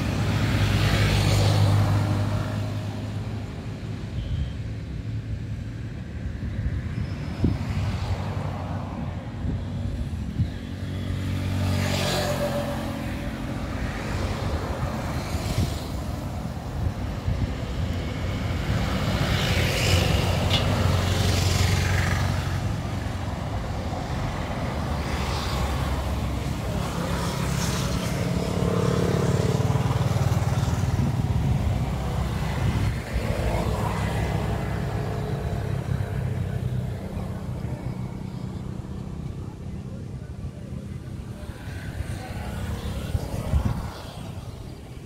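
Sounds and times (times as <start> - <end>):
vehicles swishing past: 0.0 - 45.0
wind buffeting microphone: 6.0 - 11.1, 13.5 - 45.0.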